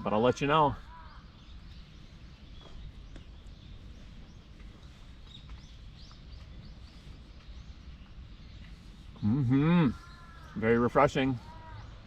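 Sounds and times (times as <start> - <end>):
low wind rumble: 0.0 - 12.0
small birds chirping: 0.0 - 12.0.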